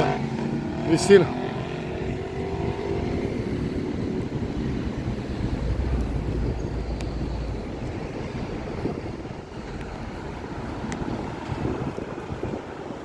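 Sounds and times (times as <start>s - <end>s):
city traffic rumble: 0.0s - 13.0s
wind buffeting microphone: 0.0s - 13.0s.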